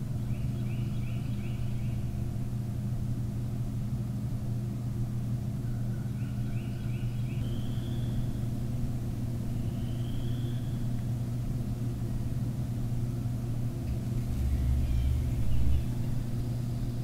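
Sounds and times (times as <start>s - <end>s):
low background rumble: 0.0s - 17.0s
turkey drumming deep hum: 0.0s - 17.0s.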